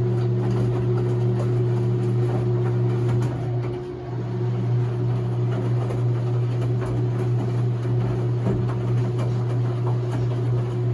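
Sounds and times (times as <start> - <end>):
washing machine motor humming: 0.0 - 10.9.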